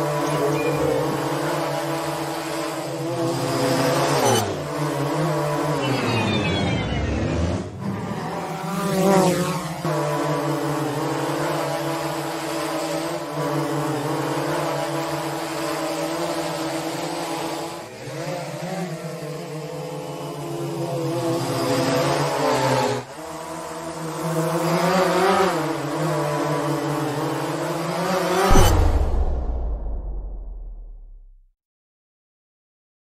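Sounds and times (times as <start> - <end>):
drone propellers buzzing: 0.0 - 31.3.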